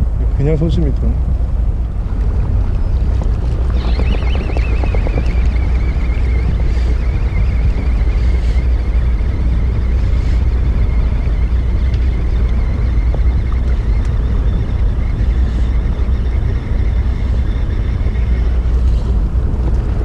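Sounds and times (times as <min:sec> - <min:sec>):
boat engine rumble: 0:00.0 - 0:20.0
wind rumble on microphone: 0:00.0 - 0:20.0
thin high whine: 0:01.9 - 0:20.0.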